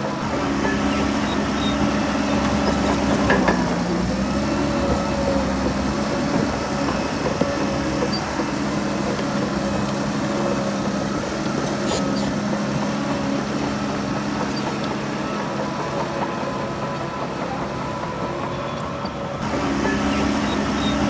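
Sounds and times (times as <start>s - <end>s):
heavy diesel engines running: 0.0s - 21.0s.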